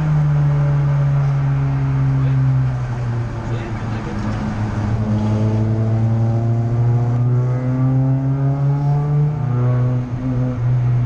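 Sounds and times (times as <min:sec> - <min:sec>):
car engine pulling under load: 0:00.0 - 0:11.0.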